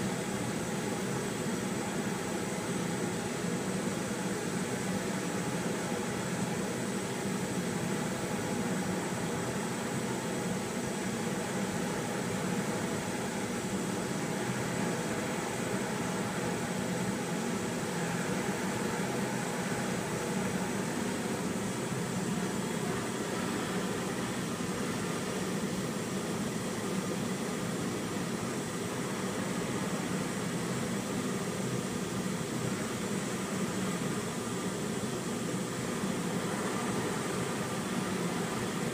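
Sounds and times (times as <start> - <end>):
extractor fan running: 0.0 - 38.9.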